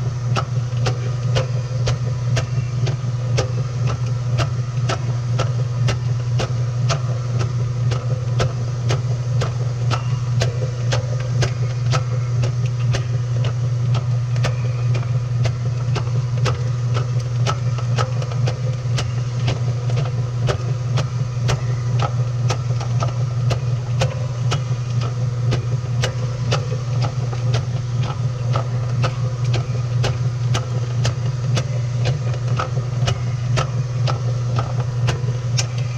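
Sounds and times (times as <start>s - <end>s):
washing machine motor hum: 0.0s - 35.9s.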